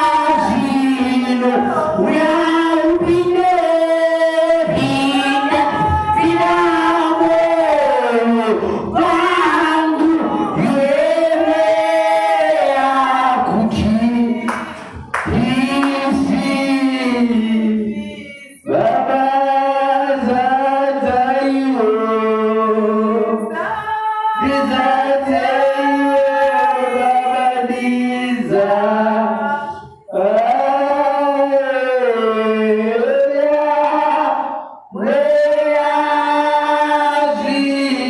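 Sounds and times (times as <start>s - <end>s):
congregation singing unaccompanied: 0.0s - 38.0s.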